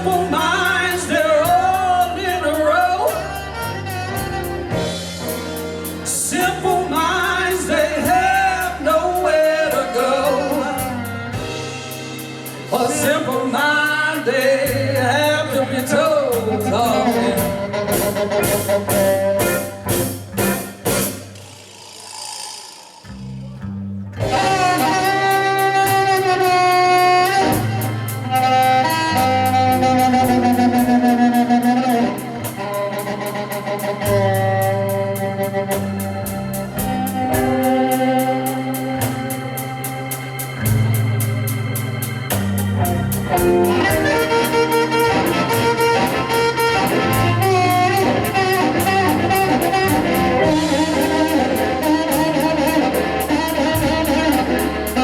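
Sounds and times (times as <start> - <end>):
live blues band playing: 0.0 - 55.0
organ chords: 0.0 - 55.0.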